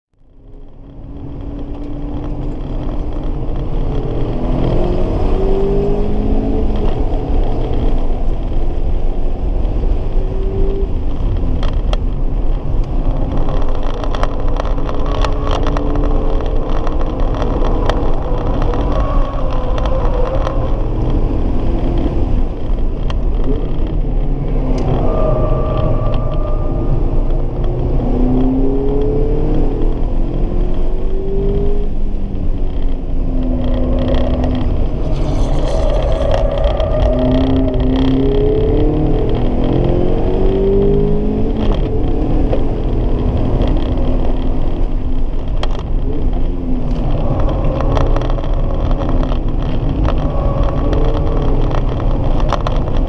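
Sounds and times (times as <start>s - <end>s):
road and tyre rumble: 0.1s - 53.0s
car engine accelerating: 0.4s - 53.0s.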